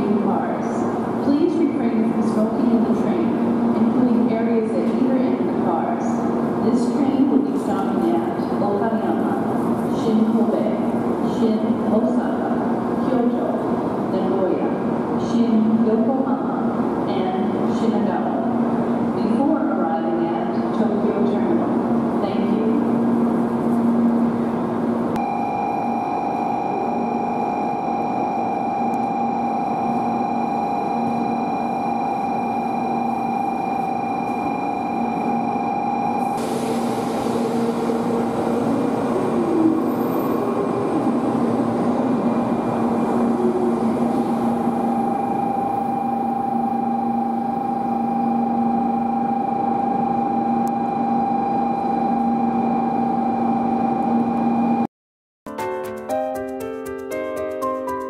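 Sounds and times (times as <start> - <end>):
train rumbling on rails: 0.0 - 54.8.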